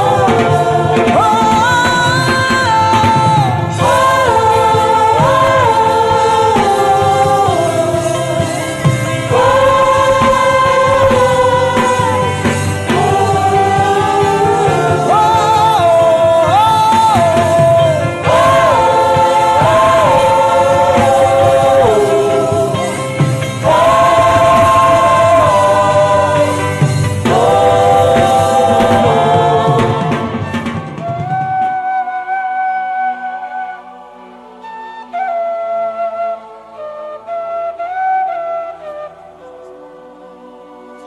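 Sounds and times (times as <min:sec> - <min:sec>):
low musical accompaniment: 0:00.0 - 0:41.0
voices humming in harmony: 0:00.0 - 0:41.0.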